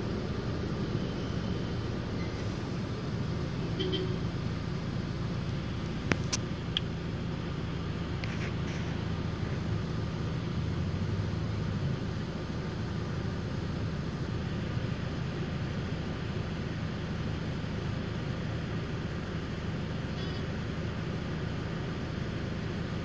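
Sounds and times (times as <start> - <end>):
car engine running inside cabin: 0.0 - 23.0
low rumble of street traffic: 0.0 - 23.0.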